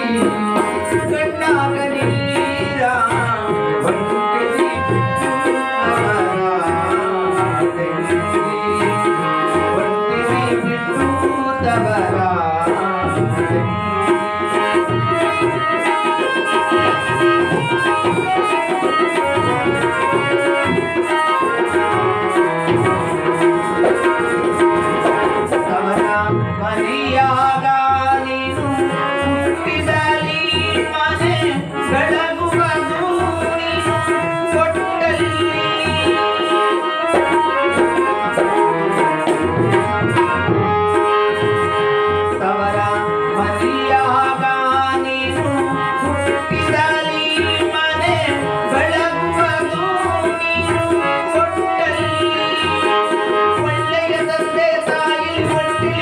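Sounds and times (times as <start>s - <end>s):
harmonium melody: 0.0s - 56.0s
tabla drumming: 0.0s - 56.0s.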